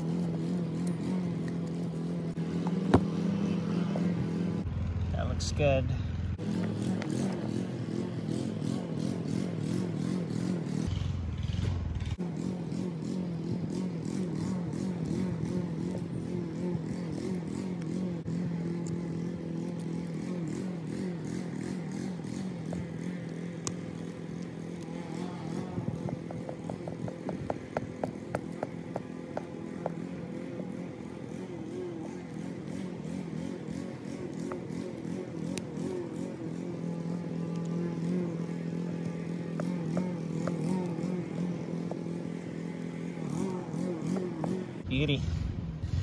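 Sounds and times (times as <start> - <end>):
engine humming: 0.0 - 45.9.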